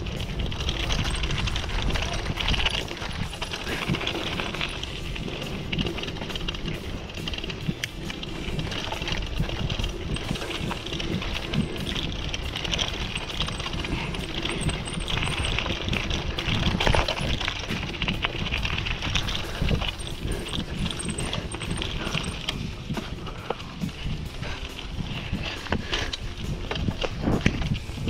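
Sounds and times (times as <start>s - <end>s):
bicycle tyres crunching on gravel: 0.0s - 28.0s
bike clattering: 0.0s - 28.0s
wind rumbling on microphone: 0.0s - 28.0s.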